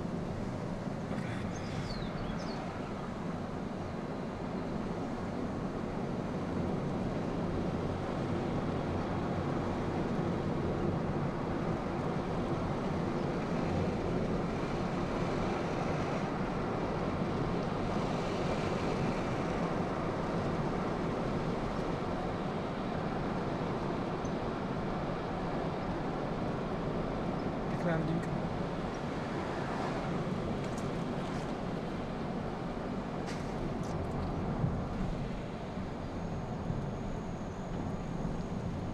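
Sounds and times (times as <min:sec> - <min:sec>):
tyres on asphalt: 0:00.0 - 0:38.9.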